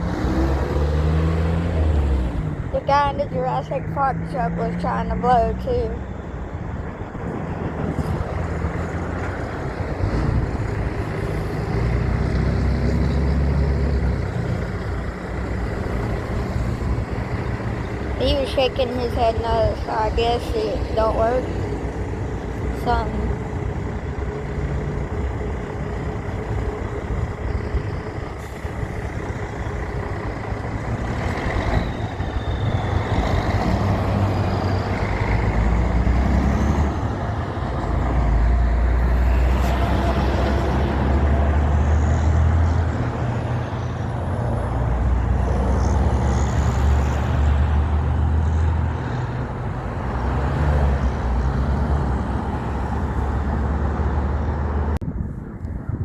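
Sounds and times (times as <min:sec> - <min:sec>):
heavy trucks passing: 0:00.0 - 0:56.0.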